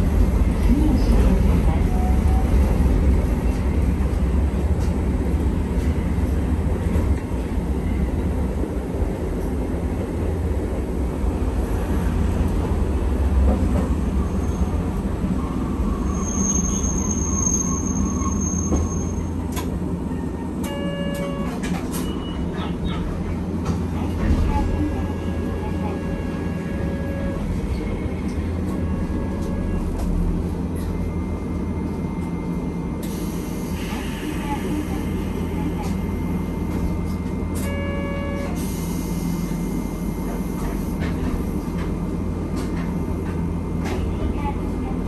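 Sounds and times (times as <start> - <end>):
streetcar rumbling on rails: 0.0 - 45.0.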